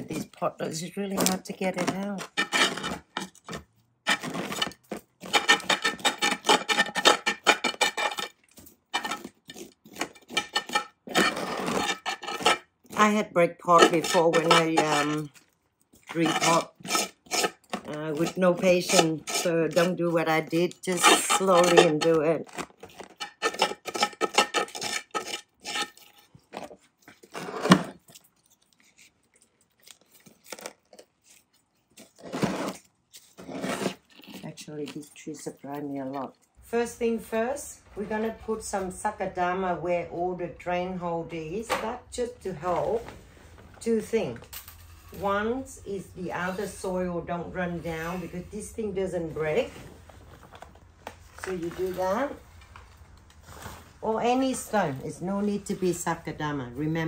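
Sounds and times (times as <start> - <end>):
roots and soil scraping a pot: 0.0 - 15.4, 16.0 - 28.2, 30.2 - 57.0.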